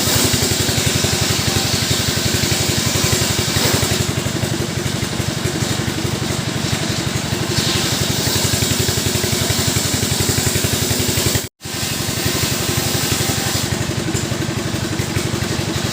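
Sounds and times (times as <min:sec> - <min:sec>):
chainsaw engine idling: 0:00.0 - 0:15.9.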